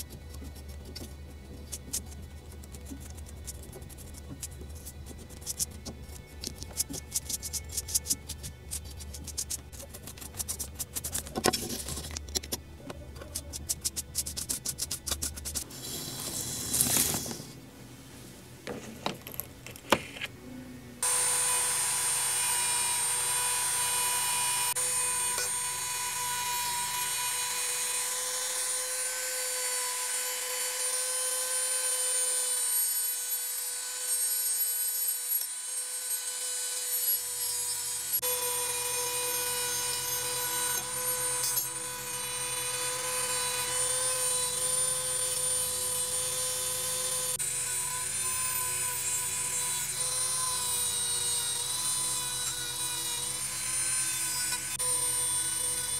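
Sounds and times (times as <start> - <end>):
rotary tool wire brush whine: 0.0 - 17.6, 21.0 - 55.9.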